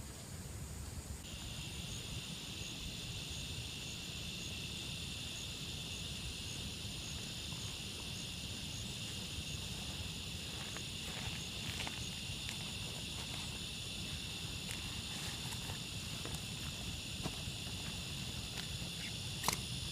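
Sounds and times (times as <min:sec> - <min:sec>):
insects buzzing: 0:00.0 - 0:19.9.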